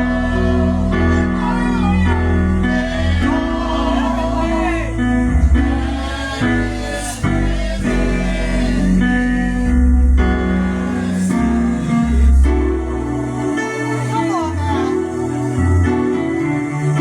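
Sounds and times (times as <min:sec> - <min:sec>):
gospel singing over chords: 0:00.0 - 0:17.0.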